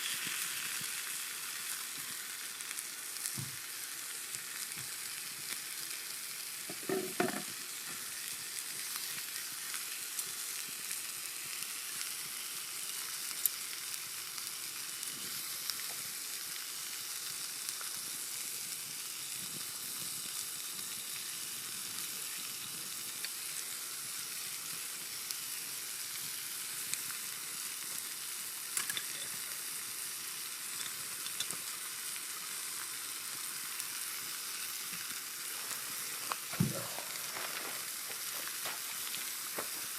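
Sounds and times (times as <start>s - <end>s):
steak sizzling on griddle: 0.0s - 39.9s.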